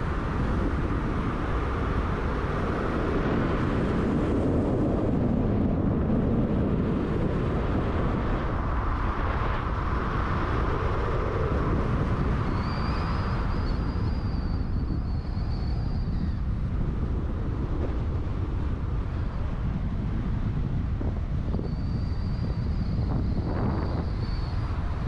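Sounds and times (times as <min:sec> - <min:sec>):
car engine and road noise: 0:00.0 - 0:25.0
faint high whine: 0:00.0 - 0:25.0.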